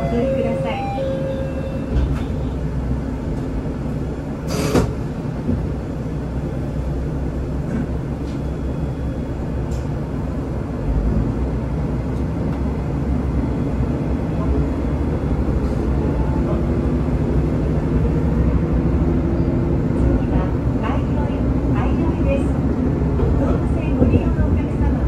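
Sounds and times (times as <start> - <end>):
diesel railcar engine running: 0.0 - 25.0.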